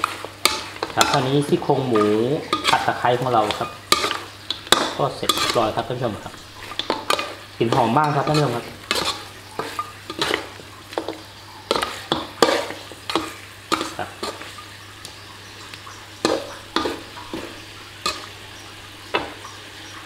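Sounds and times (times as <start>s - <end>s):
utensil scraping and knocking pan: 0.0s - 14.6s, 16.2s - 18.3s
light sizzle: 0.0s - 20.0s.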